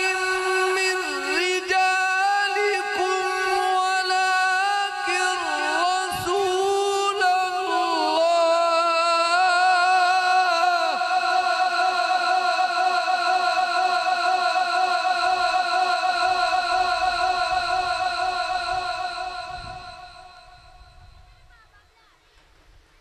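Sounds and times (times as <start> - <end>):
man chanting melodically through microphone: 0.0 - 21.4.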